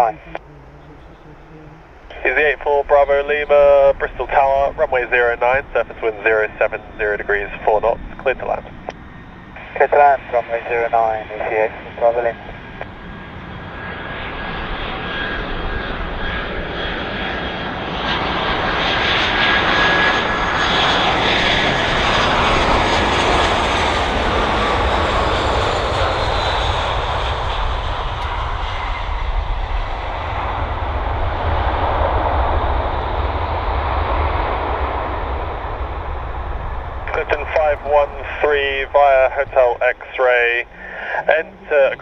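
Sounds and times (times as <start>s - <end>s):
jet airliner engines rushing: 0.0s - 42.0s
jet engine whine falling in pitch: 0.0s - 42.0s.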